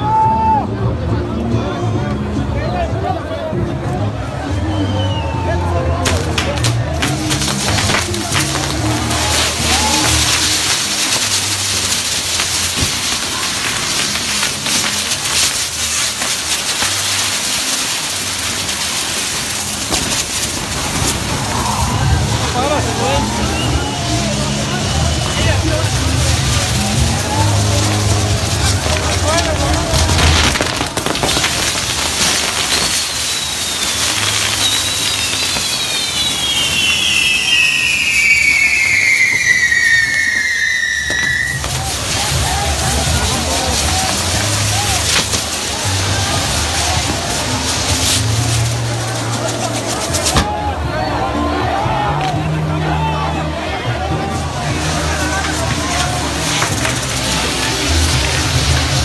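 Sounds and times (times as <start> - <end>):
firework hissing and crackling: 3.8 - 59.0.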